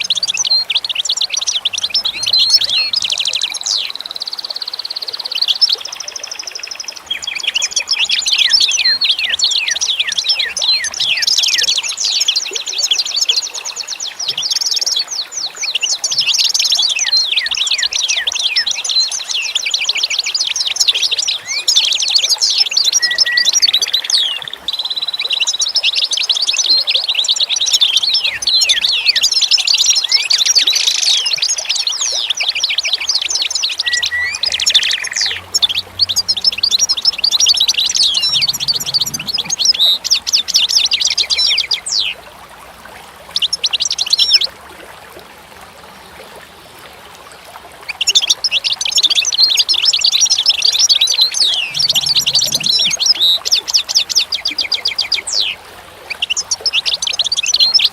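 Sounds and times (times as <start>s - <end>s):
small birds chirping: 0.0s - 42.2s, 43.3s - 44.5s, 47.9s - 57.9s.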